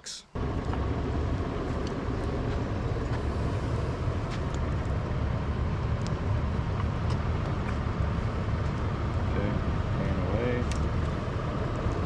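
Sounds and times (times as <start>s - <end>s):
campfire crackles: 0.3s - 12.0s
fire low rumble: 0.3s - 12.0s.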